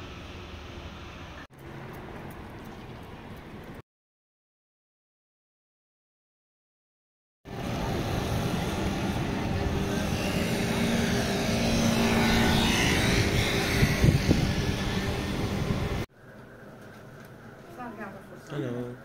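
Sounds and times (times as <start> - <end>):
street traffic rumble: 0.0 - 3.8, 7.5 - 19.0.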